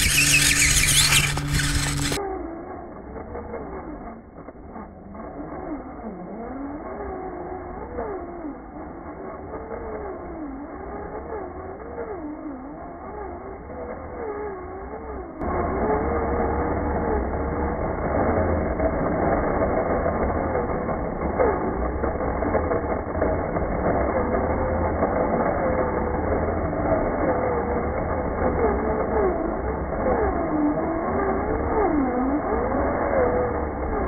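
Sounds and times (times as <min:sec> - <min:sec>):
electric motor whining: 0:00.0 - 0:34.0
low drivetrain rumble: 0:00.0 - 0:34.0.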